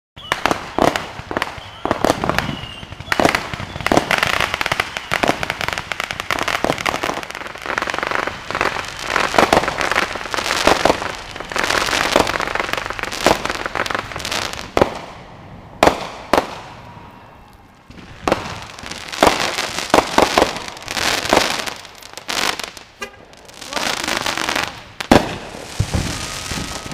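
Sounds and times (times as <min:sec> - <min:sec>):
firework bangs: 0:00.2 - 0:26.9
fireworks popping and crackling: 0:00.2 - 0:26.9.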